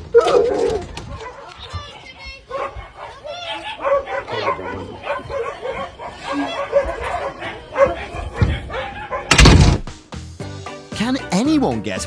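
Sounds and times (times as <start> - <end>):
dog barking and yipping: 0.1 - 9.9.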